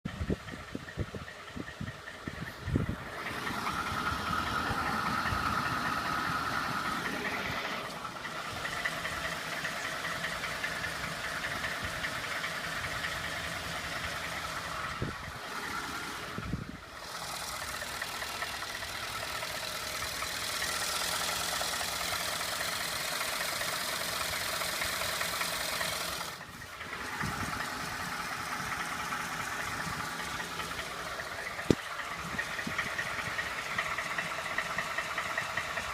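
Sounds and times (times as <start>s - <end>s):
engine running with knock: 0.1s - 35.9s.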